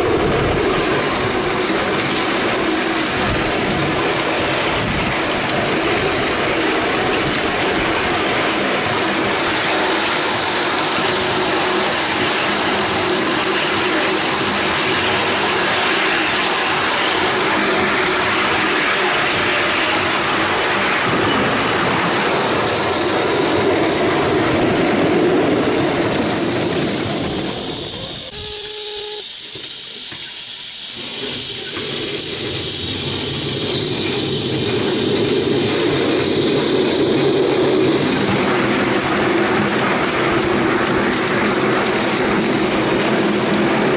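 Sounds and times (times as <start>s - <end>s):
steam locomotive running: 0.0s - 43.9s.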